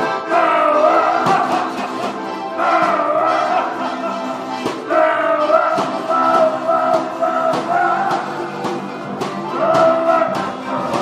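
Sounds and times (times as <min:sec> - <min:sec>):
held repeated melody notes: 0:00.0 - 0:11.0
steady percussive beat: 0:00.0 - 0:11.0.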